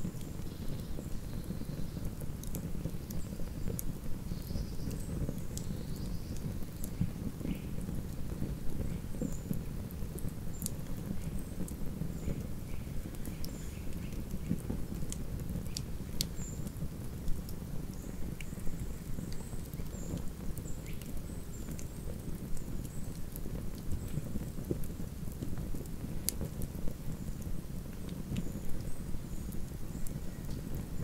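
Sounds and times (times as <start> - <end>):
campfire flames fluttering: 0.0 - 31.0
fire crackles and pops: 0.0 - 31.0.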